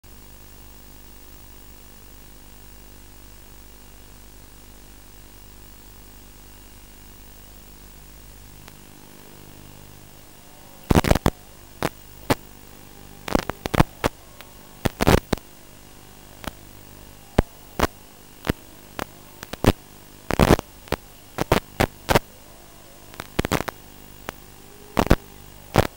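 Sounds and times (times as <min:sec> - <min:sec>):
sharp static crackles: 0:00.1 - 0:25.9
steady hum and hiss: 0:00.1 - 0:25.9.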